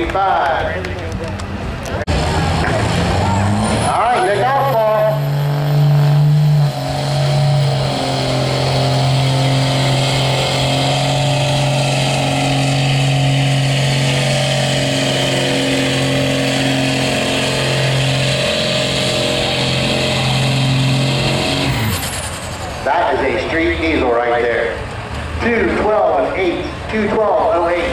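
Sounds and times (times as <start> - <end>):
diesel truck engine at high revs: 0.0 - 27.9.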